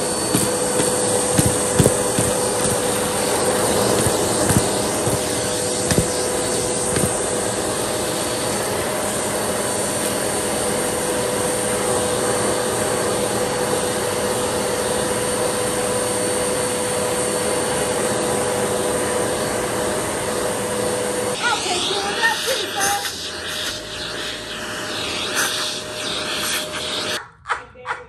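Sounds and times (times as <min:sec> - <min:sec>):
vacuum cleaner running: 0:00.0 - 0:27.2.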